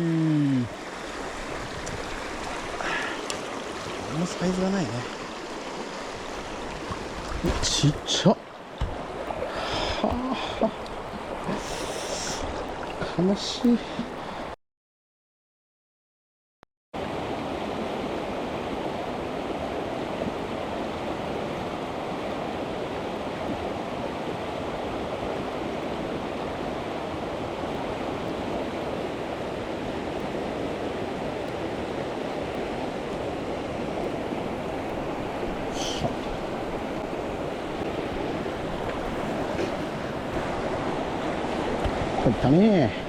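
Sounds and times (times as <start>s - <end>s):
mountain stream rushing: 0.0s - 14.6s, 17.0s - 43.0s.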